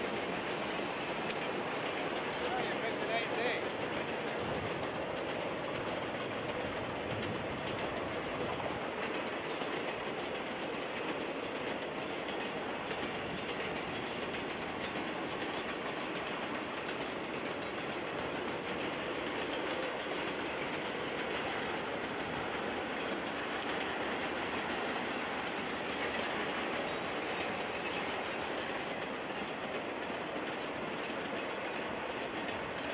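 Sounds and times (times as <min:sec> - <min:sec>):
steel wheels on rails: 0:00.0 - 0:32.9
train railcars rolling past: 0:00.0 - 0:32.9.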